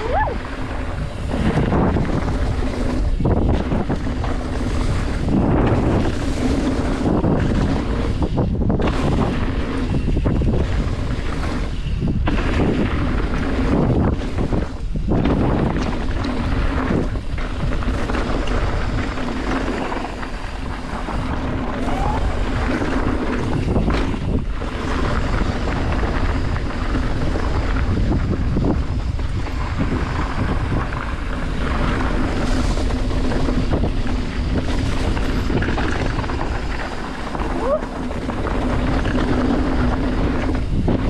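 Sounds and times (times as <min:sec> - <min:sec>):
bike rattle: 0:00.0 - 0:41.0
tyre roar on gravel: 0:00.0 - 0:41.0
wind buffeting microphone: 0:00.0 - 0:41.0.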